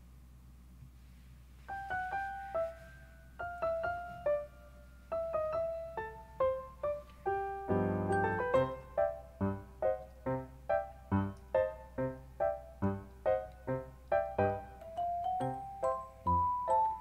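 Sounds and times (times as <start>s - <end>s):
playful piano melody: 1.6s - 17.0s.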